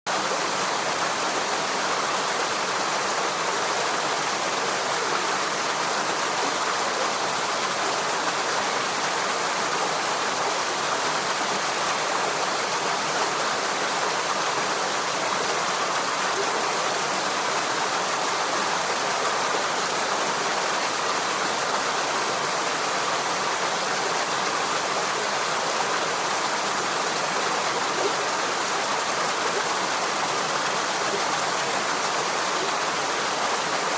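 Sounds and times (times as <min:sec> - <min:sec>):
stream water flowing: 0:00.1 - 0:33.9.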